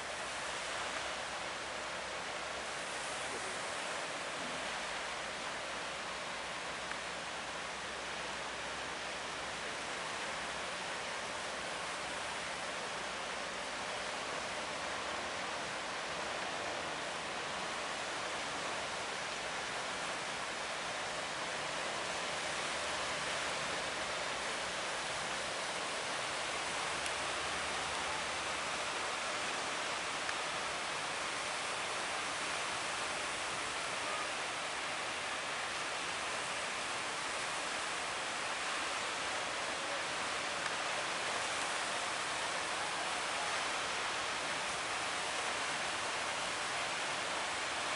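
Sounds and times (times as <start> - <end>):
wind: 0.0 - 47.9.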